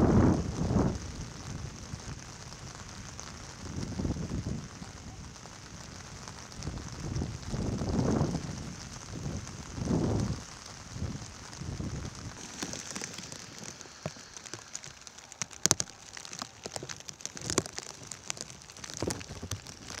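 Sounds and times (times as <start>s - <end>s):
light rain falling: 0.0s - 20.0s
raindrops ticking: 0.0s - 20.0s.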